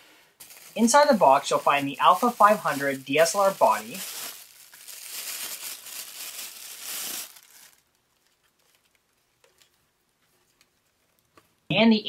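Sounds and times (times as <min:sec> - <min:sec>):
packaging crinkling and rustling: 0:00.4 - 0:11.6.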